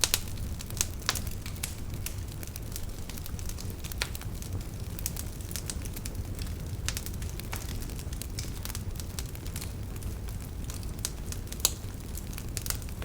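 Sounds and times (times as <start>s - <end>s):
burning logs crackling and popping: 0.0s - 13.0s
fire flames rumbling: 0.0s - 13.0s.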